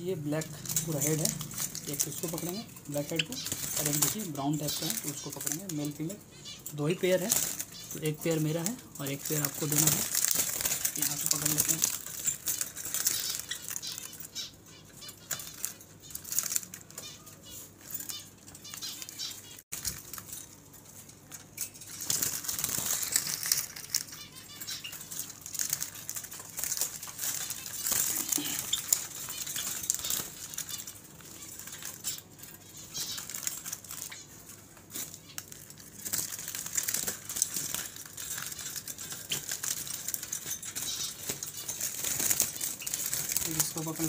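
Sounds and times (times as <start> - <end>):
birds flapping wings in a cage: 0.2 - 44.0.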